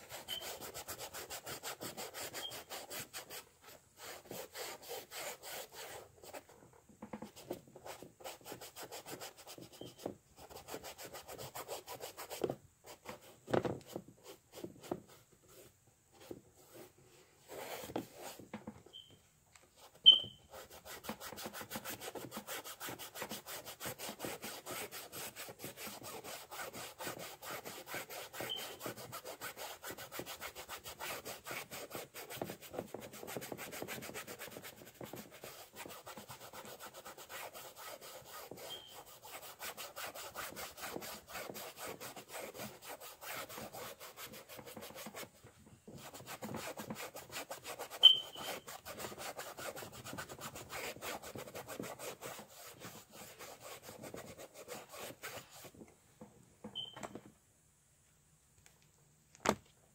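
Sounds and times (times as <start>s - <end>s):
paintbrush scrubbing on canvas: 0.0s - 6.6s, 7.3s - 19.1s, 19.7s - 55.8s.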